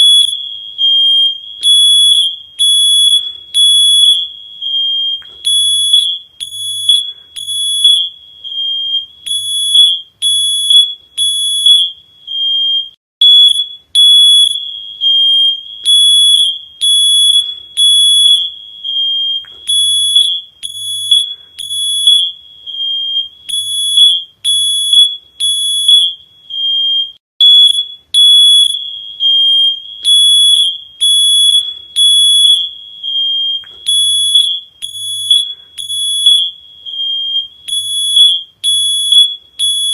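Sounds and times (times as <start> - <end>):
smoke alarm beeping: 0.0 - 39.9.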